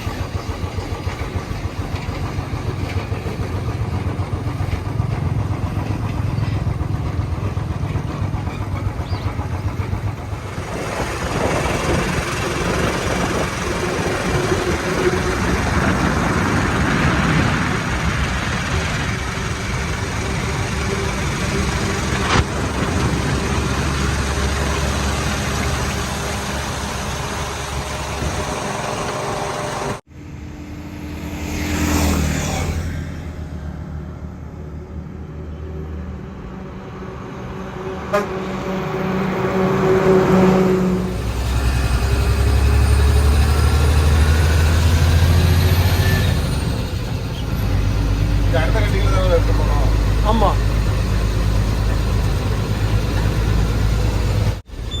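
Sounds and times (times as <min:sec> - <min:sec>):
heavy diesel engine running: 0:00.0 - 0:31.4, 0:32.1 - 0:55.0.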